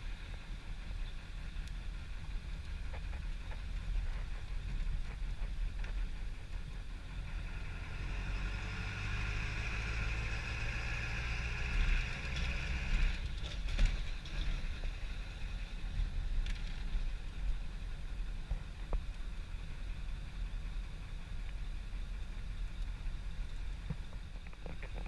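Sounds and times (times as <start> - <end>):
engine whine: 0.0 - 25.0
low rumble: 0.0 - 25.0.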